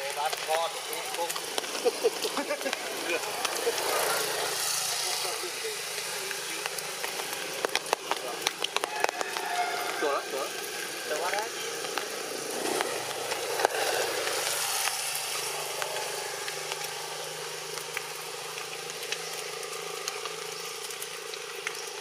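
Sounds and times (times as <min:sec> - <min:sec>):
outdoor noise: 0:00.0 - 0:22.0.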